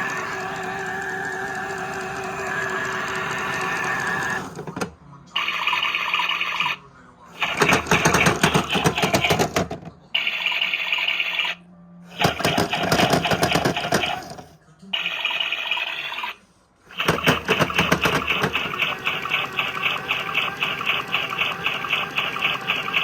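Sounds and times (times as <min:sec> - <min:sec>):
toy washing machine rattling: 0:00.0 - 0:06.8, 0:07.4 - 0:11.5, 0:12.1 - 0:23.0.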